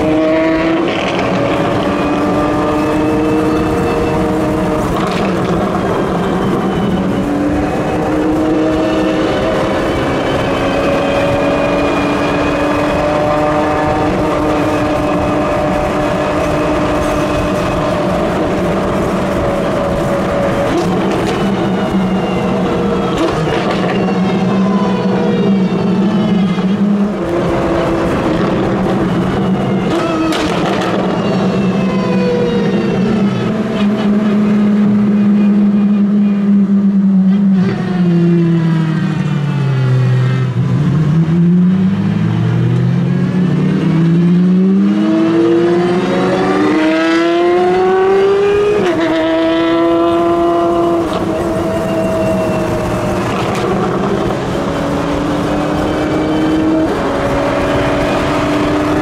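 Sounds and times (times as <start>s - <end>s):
car engine revving: 0.0s - 37.8s, 38.4s - 59.0s.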